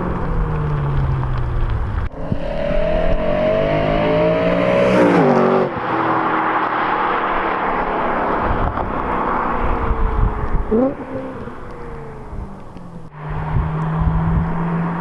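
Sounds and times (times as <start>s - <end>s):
car engine pulling hard: 0.0s - 15.0s.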